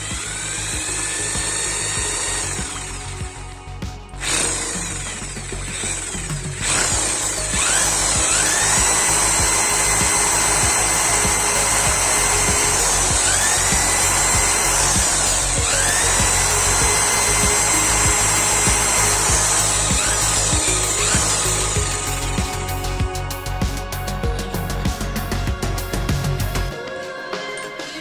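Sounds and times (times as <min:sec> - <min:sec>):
electric power tool whine: 0:00.0 - 0:26.4
background music: 0:00.0 - 0:28.0.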